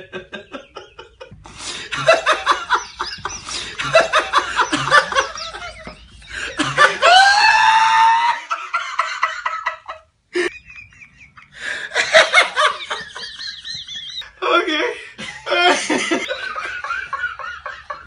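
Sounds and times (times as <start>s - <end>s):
men laughing: 0.0s - 18.0s.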